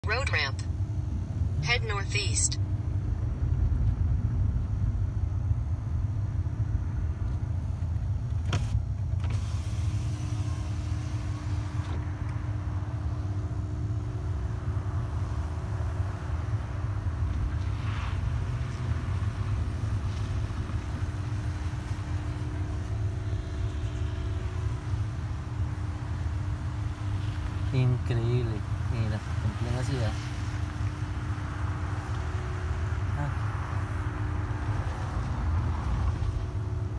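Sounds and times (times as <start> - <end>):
car engine rumble from cabin: 0.0 - 36.9.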